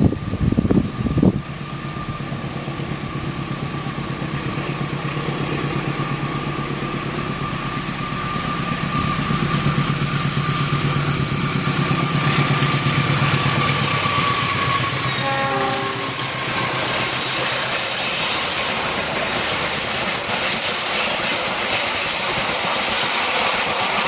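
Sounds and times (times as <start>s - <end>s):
diesel locomotive engine rumble: 0.0s - 24.0s
rail and wheel hiss: 0.0s - 24.0s.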